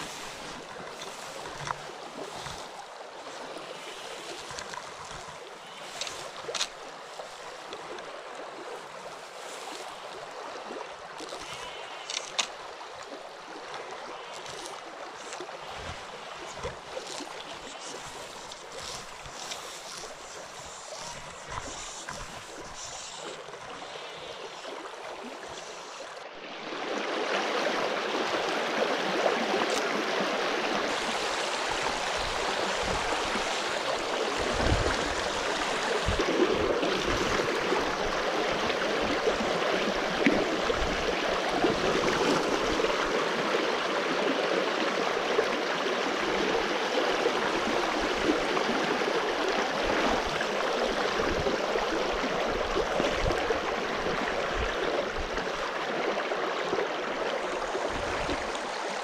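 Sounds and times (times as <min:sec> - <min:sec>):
stream gurgling over stones: 0:00.0 - 0:59.0.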